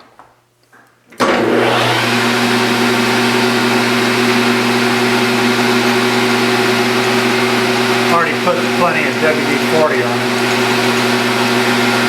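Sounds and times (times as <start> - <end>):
metal lathe running: 1.4 - 12.0.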